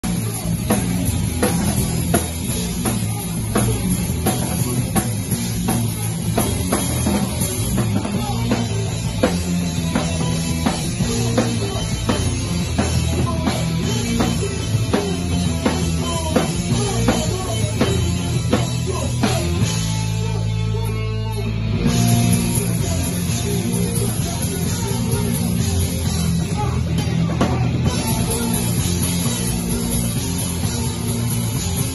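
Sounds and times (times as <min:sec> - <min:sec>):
bass guitar: 0:00.0 - 0:31.9
distorted electric guitar: 0:00.0 - 0:31.9
drum kit pounding: 0:00.0 - 0:31.9.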